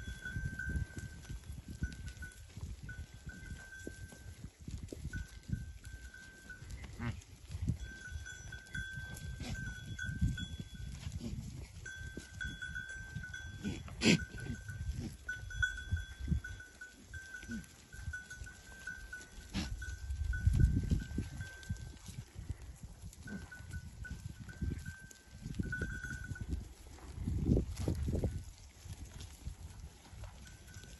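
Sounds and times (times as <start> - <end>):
animals moving about: 0.0 - 30.9.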